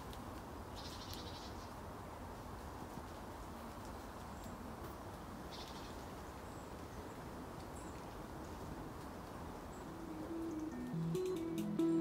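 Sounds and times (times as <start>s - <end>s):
low background hiss: 0.0s - 12.0s.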